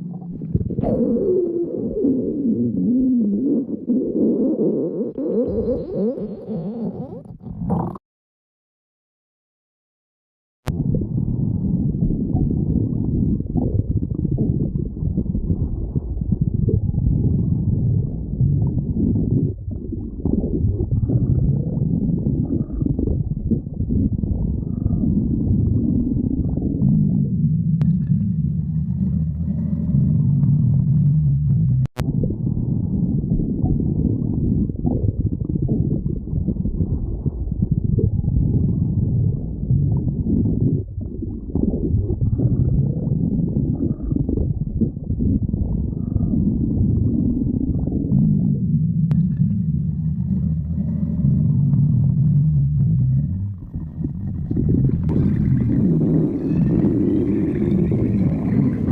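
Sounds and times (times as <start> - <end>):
stomach growling: 0.0 - 8.0, 10.7 - 58.9.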